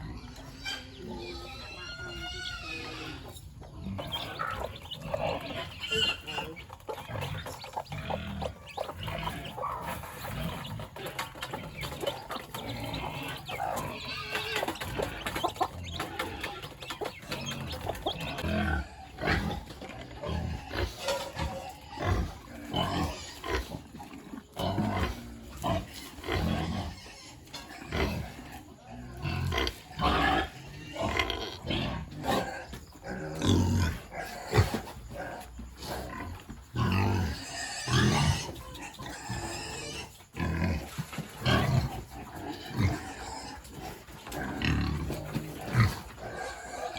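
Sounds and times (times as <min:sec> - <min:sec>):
pigs grunting: 0:00.0 - 0:46.9.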